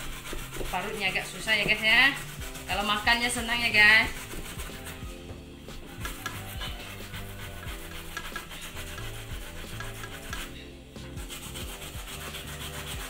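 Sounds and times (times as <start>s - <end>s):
grating on metal grater: 0.0s - 5.2s, 6.0s - 10.6s, 11.2s - 13.0s.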